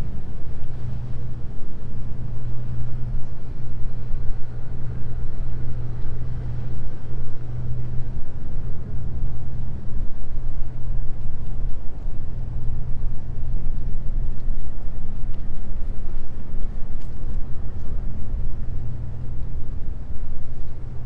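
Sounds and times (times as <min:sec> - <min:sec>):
low engine drone: 0:00.0 - 0:21.0
outdoor noise haze: 0:00.0 - 0:21.0.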